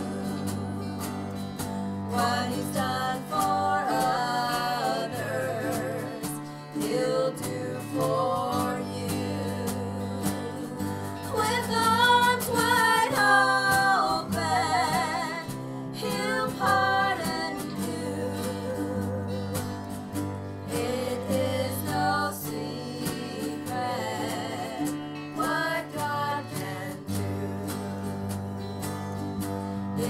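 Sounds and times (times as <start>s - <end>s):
women singing in harmony: 0.0s - 28.9s
cello: 0.0s - 30.0s
strummed acoustic guitars: 0.0s - 30.0s.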